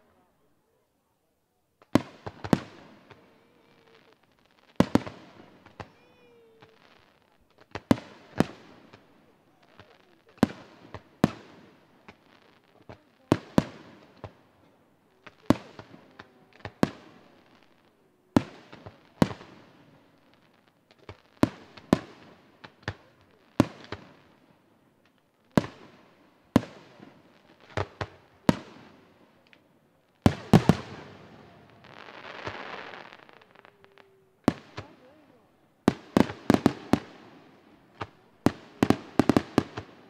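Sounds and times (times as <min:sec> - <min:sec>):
hissing crackle of firework stars: 0:01.8 - 0:40.0.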